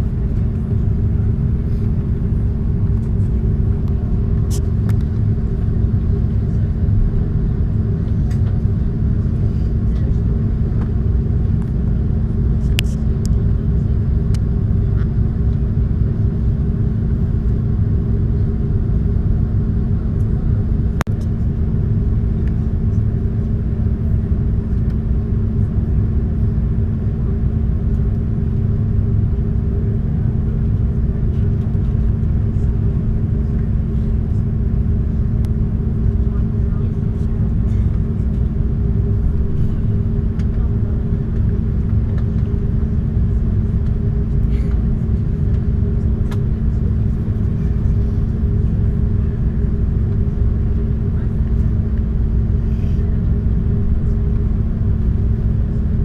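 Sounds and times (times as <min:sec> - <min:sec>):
cabin hum: 0:00.0 - 0:56.0
jet engines idling rumble: 0:00.0 - 0:56.0.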